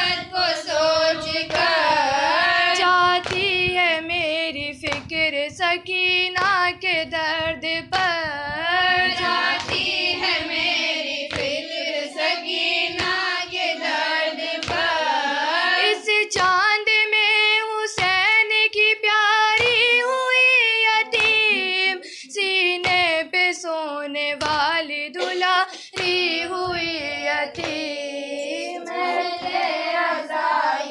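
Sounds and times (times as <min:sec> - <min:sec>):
woman chanting a lament: 0:00.0 - 0:30.9.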